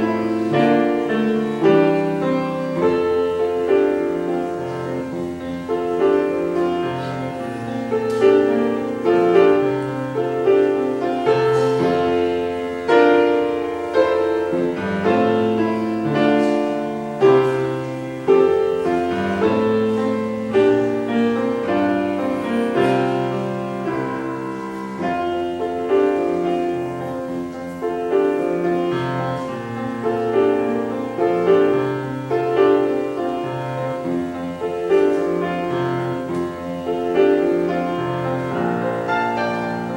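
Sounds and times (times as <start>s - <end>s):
slow piano chords: 0.0s - 39.9s.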